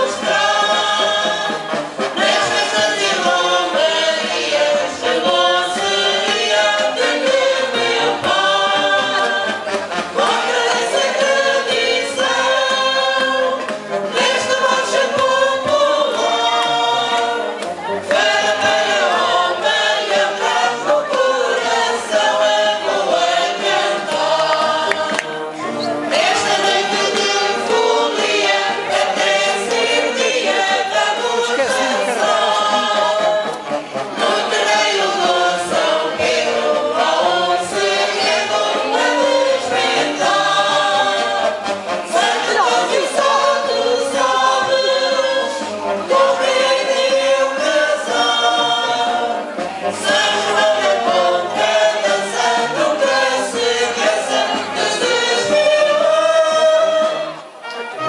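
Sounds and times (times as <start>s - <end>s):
group singing a popular song: 0.0s - 58.0s
musical accompaniment: 0.0s - 58.0s.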